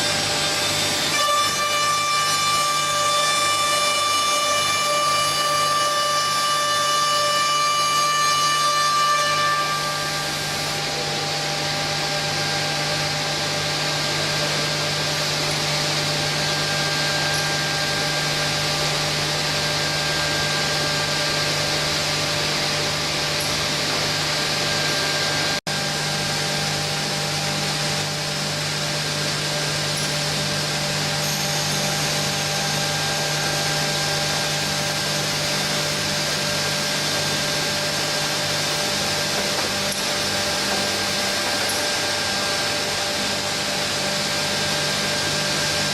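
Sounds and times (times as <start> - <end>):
machine motor whine: 8.6 - 45.9.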